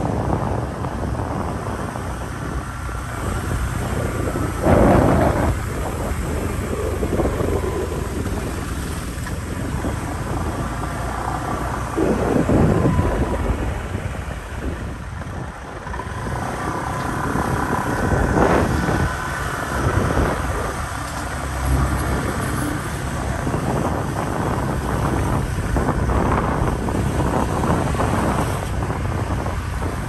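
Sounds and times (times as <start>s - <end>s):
motorbike engine and road rumble: 0.0s - 30.0s
wind on microphone: 0.0s - 30.0s.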